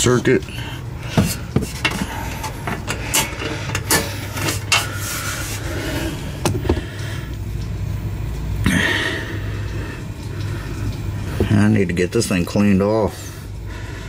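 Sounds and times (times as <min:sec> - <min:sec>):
generator low hum: 0:00.0 - 0:14.0.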